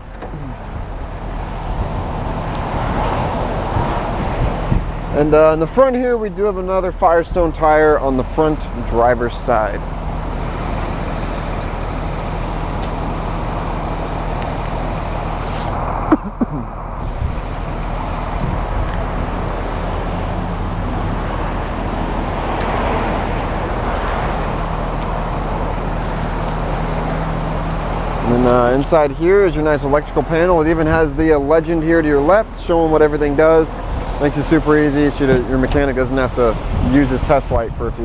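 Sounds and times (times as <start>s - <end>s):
diesel bus engine idling: 0.0s - 38.0s.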